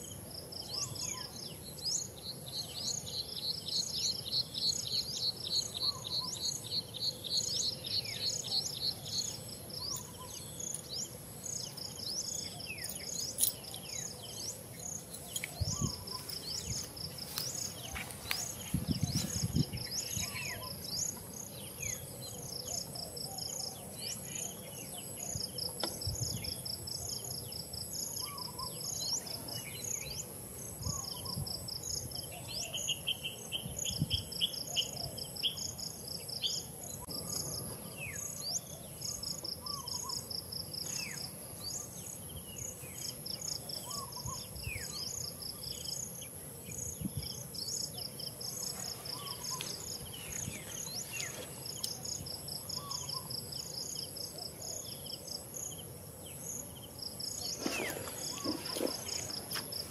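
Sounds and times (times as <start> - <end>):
high insect drone: 0.0 - 59.9
pulsing insect trills: 0.0 - 59.9.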